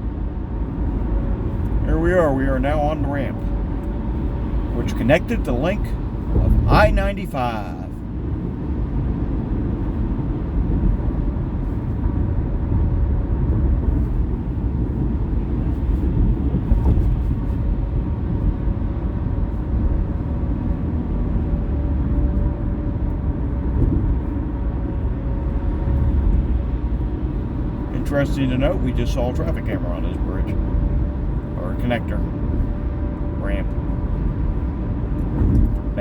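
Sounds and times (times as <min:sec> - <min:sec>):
car road and engine rumble: 0:00.0 - 0:36.0.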